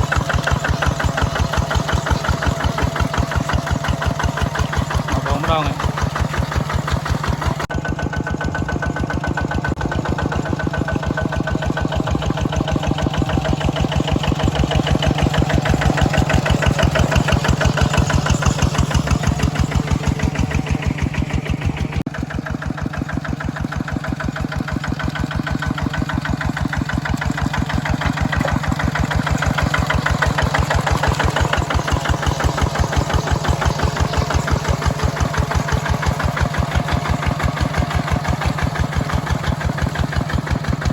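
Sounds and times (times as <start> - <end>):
tractor engine chugging: 0.0 - 40.9.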